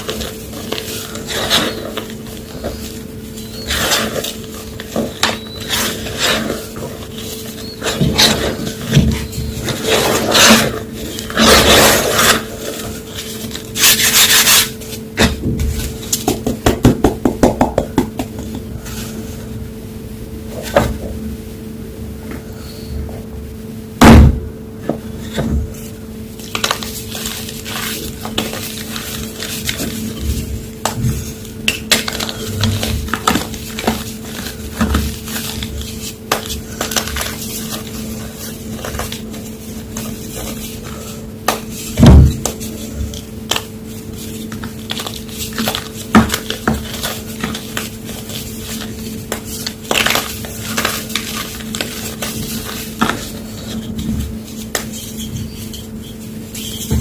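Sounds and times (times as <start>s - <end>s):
chalk blocks crunching: 0.0s - 16.5s, 26.4s - 57.0s
faint steady hum: 0.0s - 57.0s.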